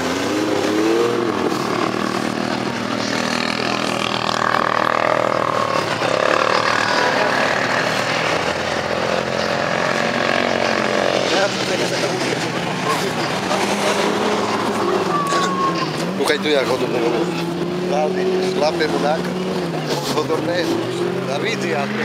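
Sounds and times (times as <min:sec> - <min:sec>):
off-road engines revving: 0:00.0 - 0:22.0.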